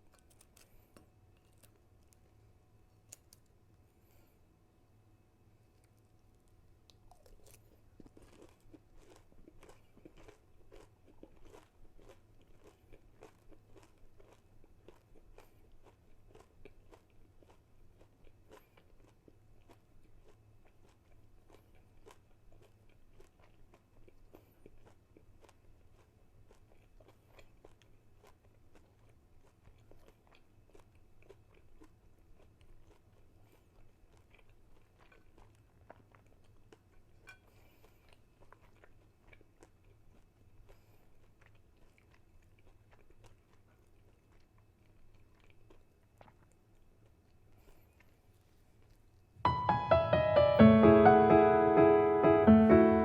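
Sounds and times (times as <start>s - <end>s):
chewing crispy food: 0.0s - 4.4s, 5.4s - 49.4s.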